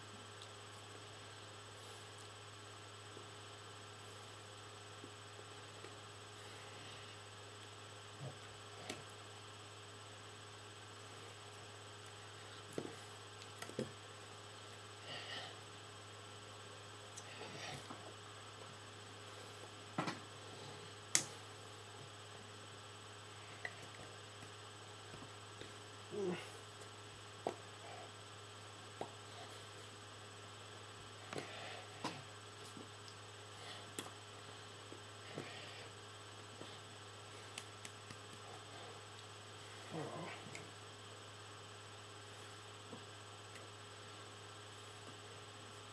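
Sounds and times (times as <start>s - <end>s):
low electrical hum: 0.0s - 45.9s.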